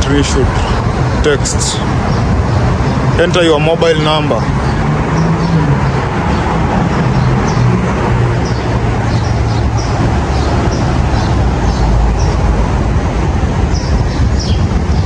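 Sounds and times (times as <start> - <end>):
street traffic noise: 0.0 - 15.0
vehicle engine humming: 0.0 - 15.0.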